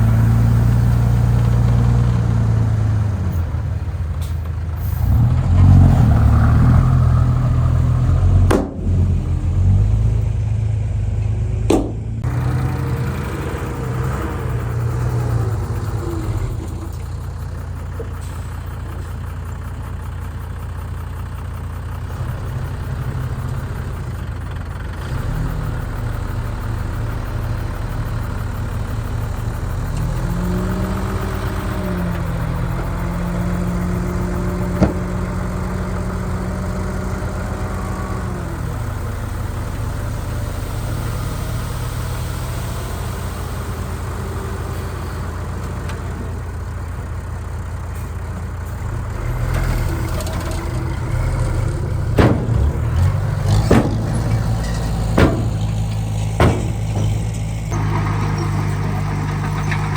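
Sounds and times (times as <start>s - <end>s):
heavy diesel engine idling: 0.0s - 59.9s.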